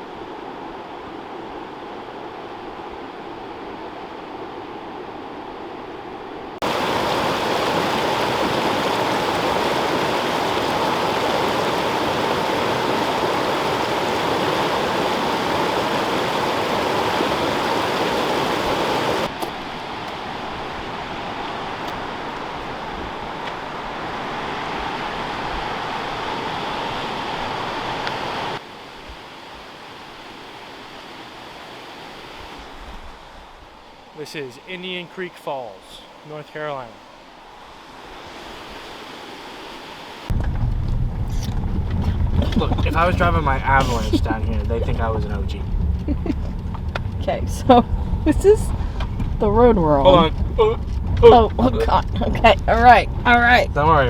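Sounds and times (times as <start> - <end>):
waterfall and creek rushing: 0.0 - 40.4, 42.4 - 45.6.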